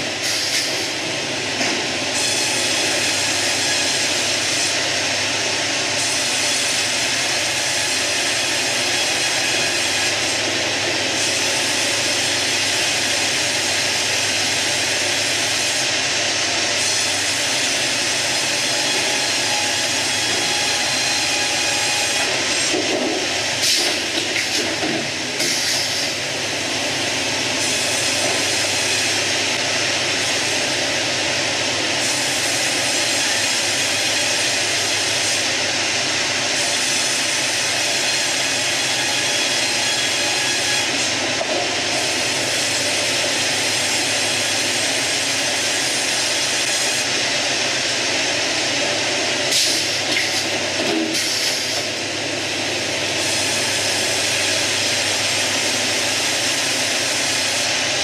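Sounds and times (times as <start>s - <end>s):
band saw cutting log: 1.6s - 31.0s, 32.0s - 52.0s, 53.0s - 58.0s.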